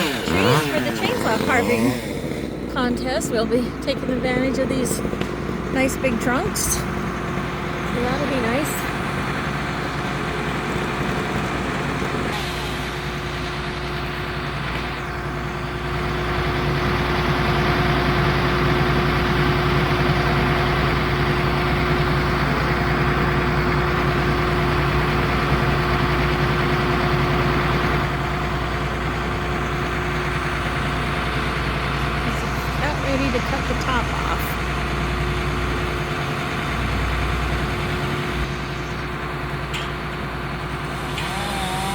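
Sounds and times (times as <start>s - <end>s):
heavy vehicle engine idling: 0.0s - 41.9s.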